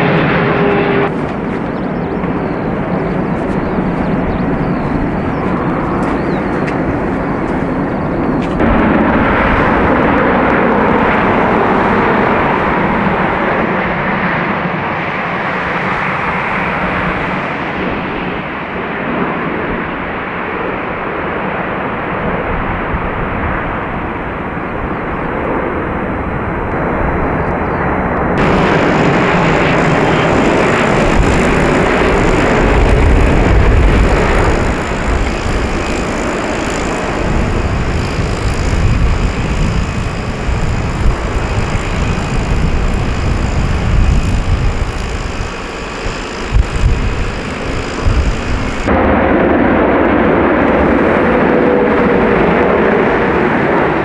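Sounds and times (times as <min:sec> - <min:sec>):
jet engine rush: 0:00.0 - 0:54.0.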